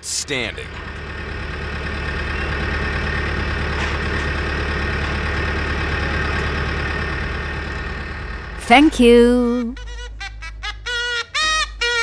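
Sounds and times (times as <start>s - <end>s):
vehicle engine idling: 0.0s - 10.8s.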